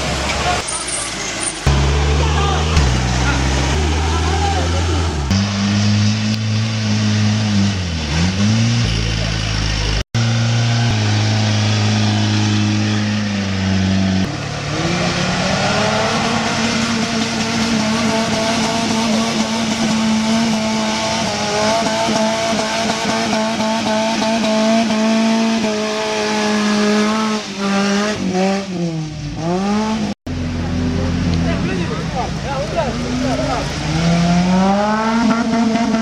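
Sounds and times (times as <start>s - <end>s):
engine running at high revs: 1.6s - 36.0s.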